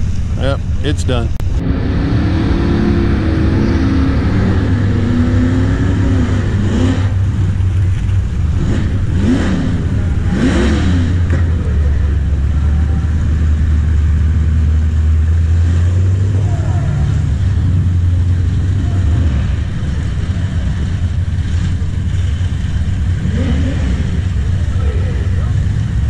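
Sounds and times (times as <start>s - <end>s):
race car engines idling and revving: 0.0s - 26.0s.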